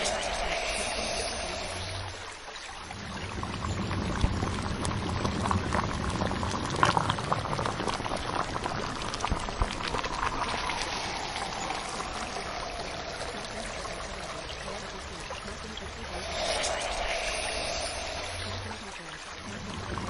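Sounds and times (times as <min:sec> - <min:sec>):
bubbling running water: 0:00.0 - 0:20.0
small splashes and drips: 0:00.0 - 0:20.0.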